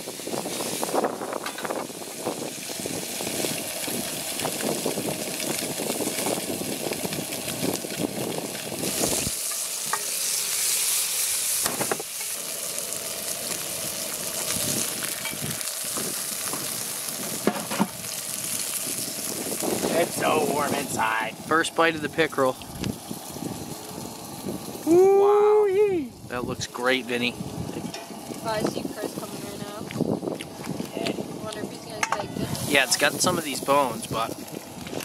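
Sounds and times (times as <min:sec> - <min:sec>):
fish sizzling in oil: 0:00.0 - 0:35.0.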